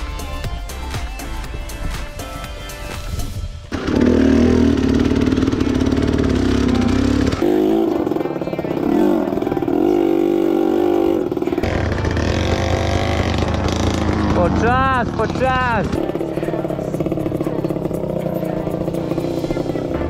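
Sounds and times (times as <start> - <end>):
dirt bike engine revving: 3.7 - 20.0.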